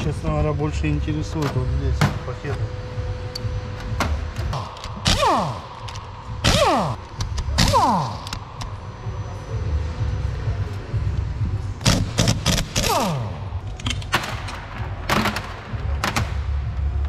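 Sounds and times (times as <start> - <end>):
low workshop hum: 0.0 - 17.0.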